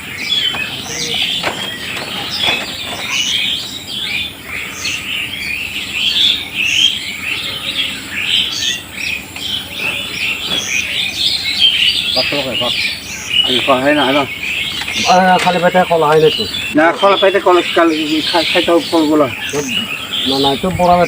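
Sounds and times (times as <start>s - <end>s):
small birds chirping and trilling: 0.0s - 21.0s.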